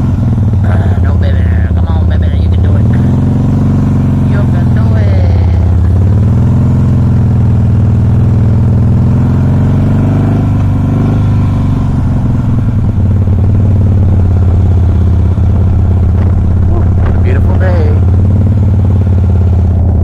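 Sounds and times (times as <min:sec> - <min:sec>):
motorcycle engine running unevenly: 0:00.0 - 0:20.0.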